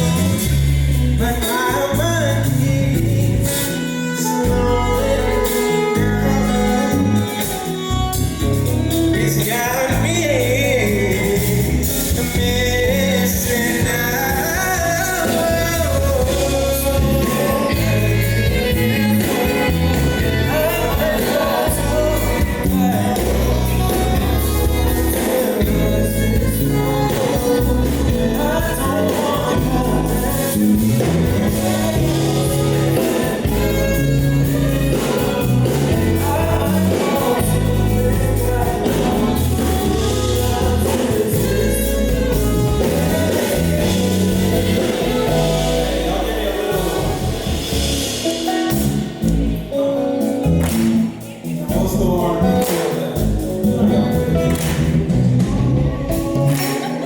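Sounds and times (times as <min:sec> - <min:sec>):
live band with singer: 0:00.0 - 0:57.0.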